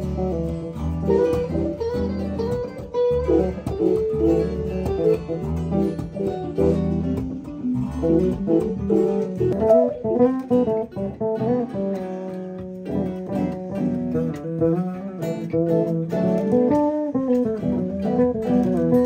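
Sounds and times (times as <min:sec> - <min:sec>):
acoustic guitars: 0:00.0 - 0:19.0
electric bass: 0:00.0 - 0:19.0
electric guitar: 0:00.0 - 0:19.0.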